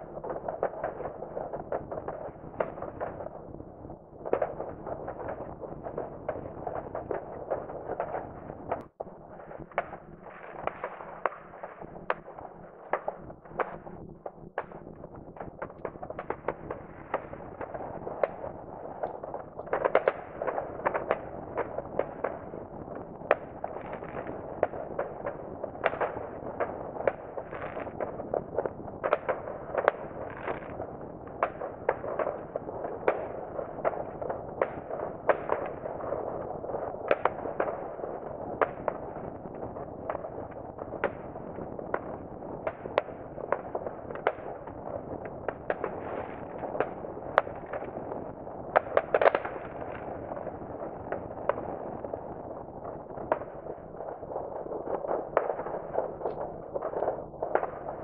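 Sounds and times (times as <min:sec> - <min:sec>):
distant fireworks bangs and pops: 0:00.0 - 0:58.0.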